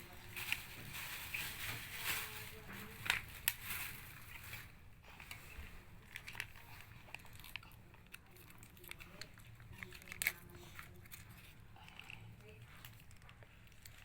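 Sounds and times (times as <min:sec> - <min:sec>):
food packaging clicks and crinkles: 0:00.0 - 0:14.0.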